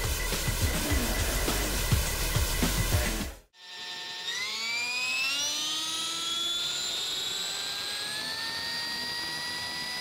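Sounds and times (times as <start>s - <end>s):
helicopter motor and rotor whine: 0.0s - 10.0s.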